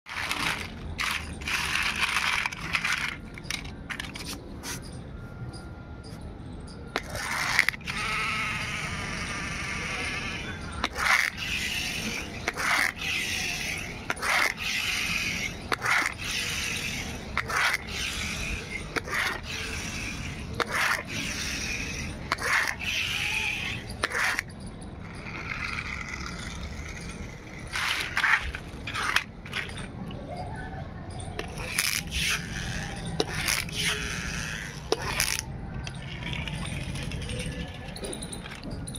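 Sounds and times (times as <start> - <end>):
plastic toy cars clattering: 0.1 - 4.8, 6.9 - 8.1, 9.6 - 24.5, 25.1 - 30.4, 31.1 - 38.9
toy car wheels whirring: 0.1 - 5.0, 6.9 - 38.9.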